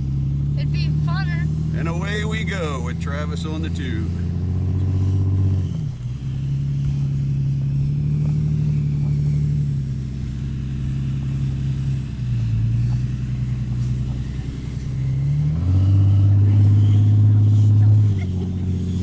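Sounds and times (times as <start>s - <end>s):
car engine under throttle: 0.0s - 19.0s.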